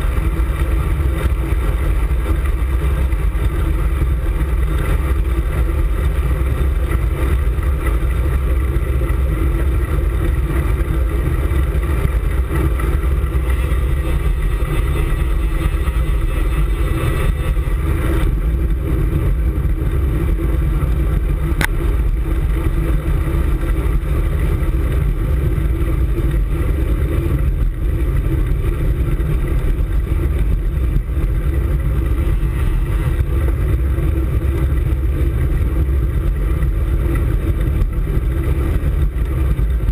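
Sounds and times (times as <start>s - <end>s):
tyre and road noise: 0.0s - 39.9s
wind rumble on microphone: 0.0s - 39.9s.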